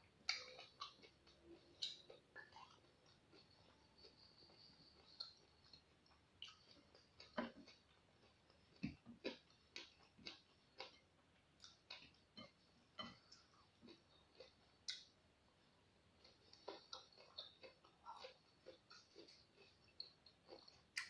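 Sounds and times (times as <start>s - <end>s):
crunching of chewing raw vegetables: 0.0s - 15.1s, 16.2s - 21.0s.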